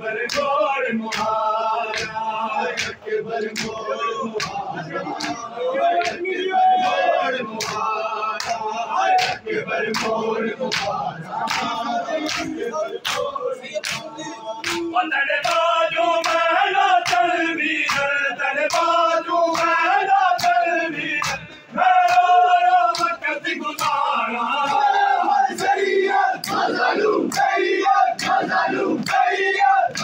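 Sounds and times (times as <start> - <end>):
men chanting in chorus: 0.0 - 30.0
chest-beating slaps in unison: 0.2 - 6.2, 6.8 - 19.8, 20.4 - 24.0, 26.4 - 30.0.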